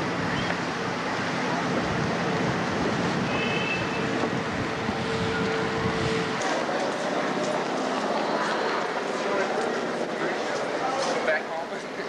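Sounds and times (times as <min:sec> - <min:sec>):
motorboat traffic: 0:00.0 - 0:12.0.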